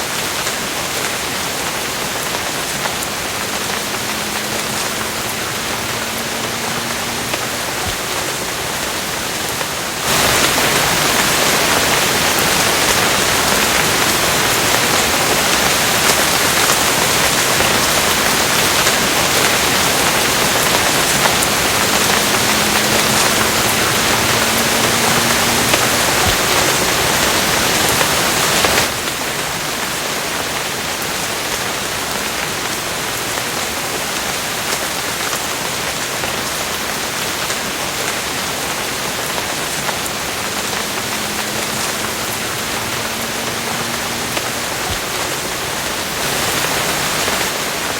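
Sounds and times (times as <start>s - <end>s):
heavy downpour: 0.0s - 47.9s
steady rain: 0.0s - 47.9s.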